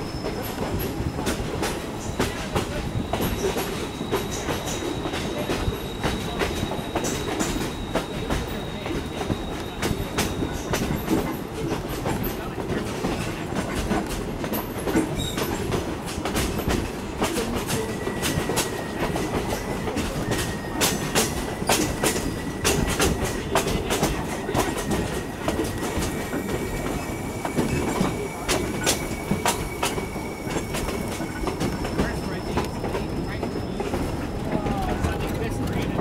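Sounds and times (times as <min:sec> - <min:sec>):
train rumbling: 0:00.0 - 0:36.0
wheels clickety-clack over rail joints: 0:00.0 - 0:36.0.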